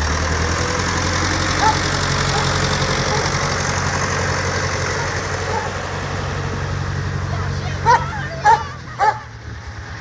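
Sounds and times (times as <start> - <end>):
tractor diesel engine driving past: 0.0 - 10.0.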